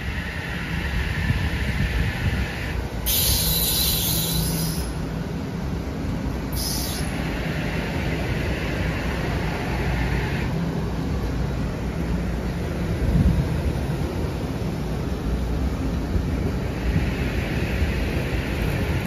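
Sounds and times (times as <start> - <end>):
high hiss: 0.0 - 19.0
train rumbling past: 0.0 - 19.0.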